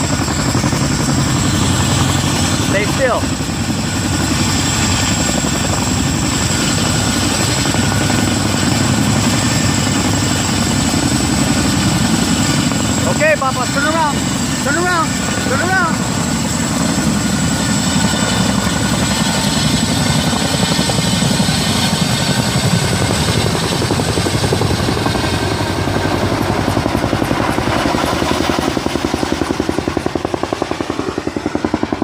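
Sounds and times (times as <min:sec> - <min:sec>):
helicopter engine whine: 0:00.0 - 0:32.0
helicopter rotor beat: 0:00.0 - 0:32.0.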